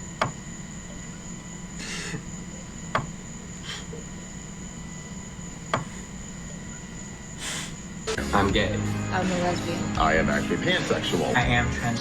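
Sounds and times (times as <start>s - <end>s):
electrical hum: 0.0s - 12.0s
faint high whine: 0.0s - 12.0s.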